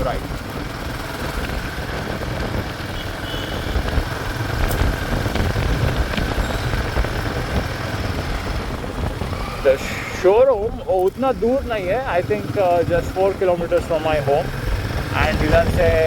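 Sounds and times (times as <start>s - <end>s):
motorcycle engine running: 0.0s - 10.1s, 10.7s - 16.0s
road noise rushing: 0.0s - 16.0s.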